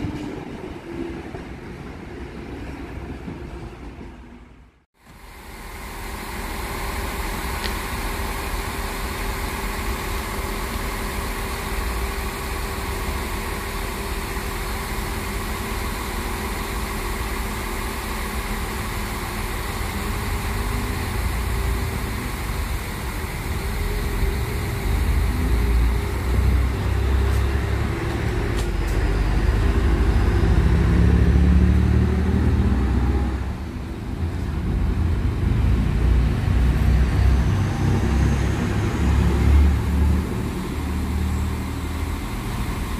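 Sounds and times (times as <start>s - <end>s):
train engine hum: 0.0s - 42.9s.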